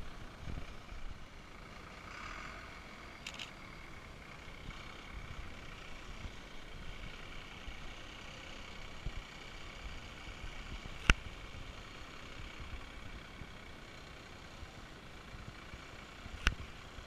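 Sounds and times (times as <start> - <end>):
truck diesel engine low rumble: 0.0 - 17.0.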